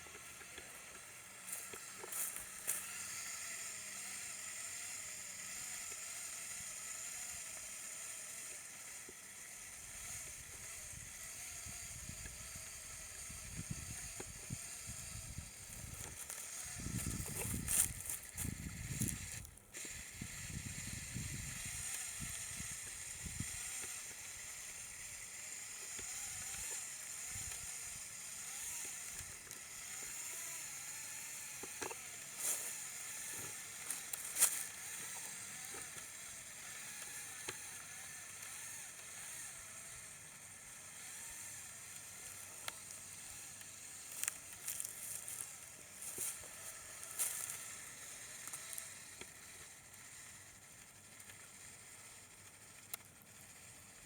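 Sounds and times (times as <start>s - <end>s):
toy electric motor and gears whining: 0.0s - 54.0s.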